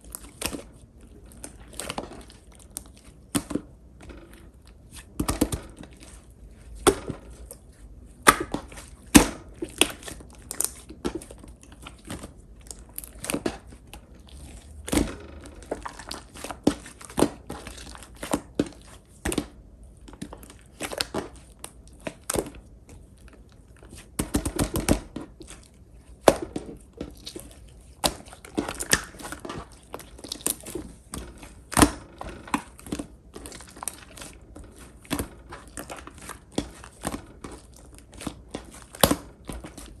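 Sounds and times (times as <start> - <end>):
crinkly slime noise: 0.0 - 40.0.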